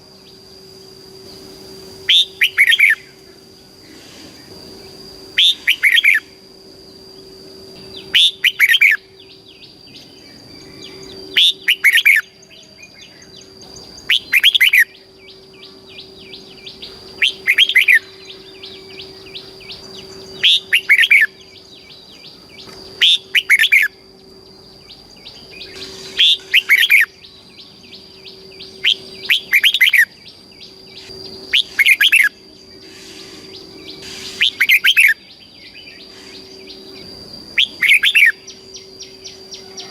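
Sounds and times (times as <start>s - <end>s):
faint steady high tone: 0.0s - 39.9s
rapid bird chirping: 0.0s - 39.9s
bird singing whistled notes: 0.1s - 39.9s.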